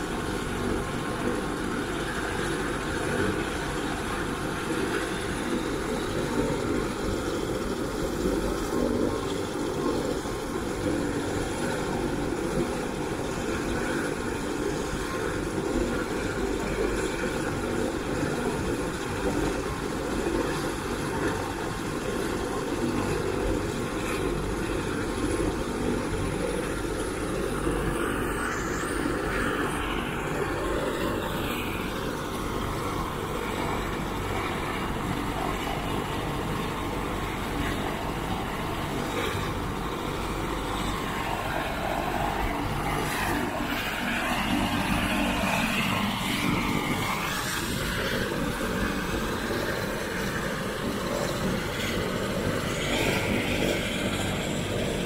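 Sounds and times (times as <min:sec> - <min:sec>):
helicopter turbine noise: 0:00.0 - 0:55.0.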